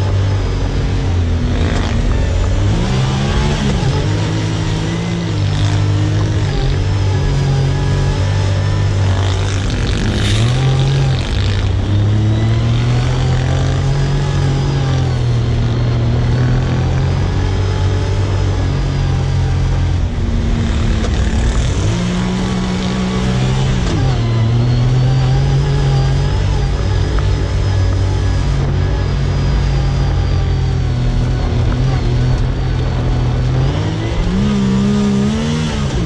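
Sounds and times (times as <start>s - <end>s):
utility vehicle engine running: 0.0s - 36.0s.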